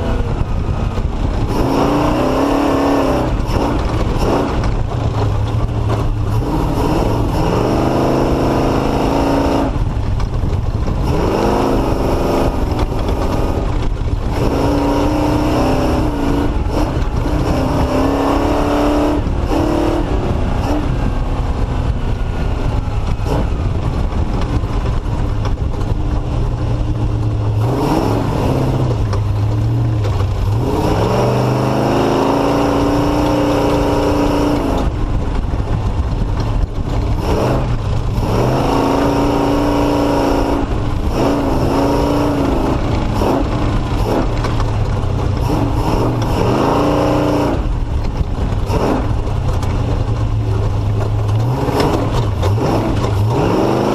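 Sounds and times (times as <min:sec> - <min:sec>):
off-road vehicle engine revving: 0:00.0 - 0:53.9
rumble of the ride: 0:00.0 - 0:53.9.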